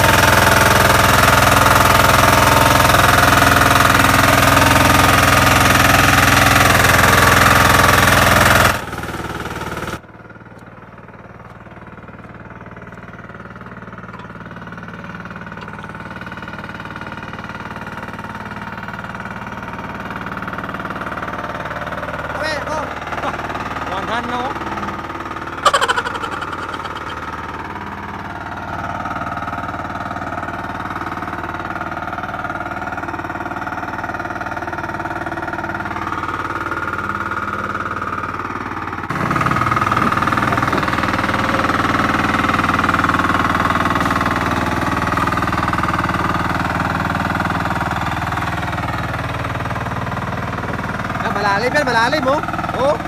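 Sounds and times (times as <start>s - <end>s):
tiller engine running: 0.0s - 53.0s.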